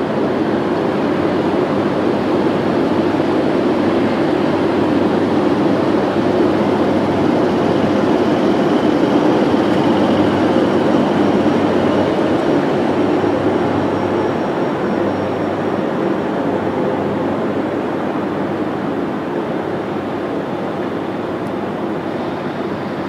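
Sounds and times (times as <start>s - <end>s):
train running rumble: 0.0s - 23.0s
faint high whine: 0.3s - 23.0s.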